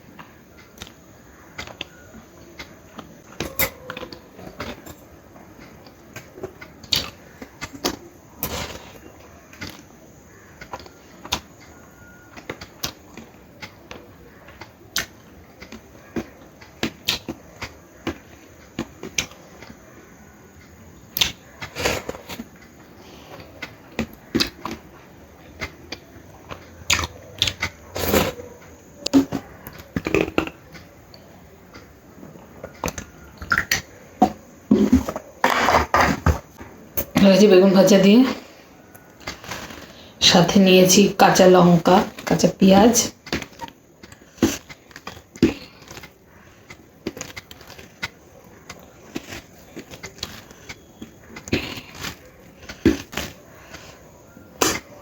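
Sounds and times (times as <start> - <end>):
person chewing food: 0.1 - 9.9, 12.3 - 19.9, 20.6 - 36.9, 43.2 - 55.0.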